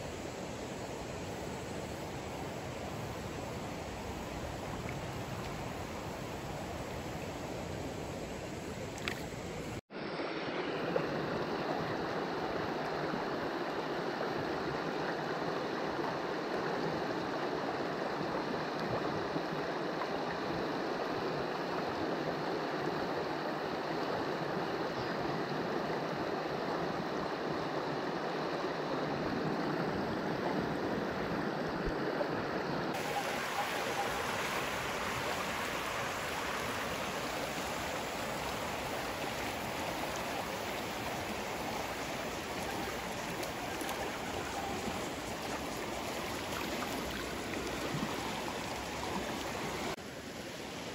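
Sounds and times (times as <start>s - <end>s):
creek rushing over rocks: 8.7s - 50.9s.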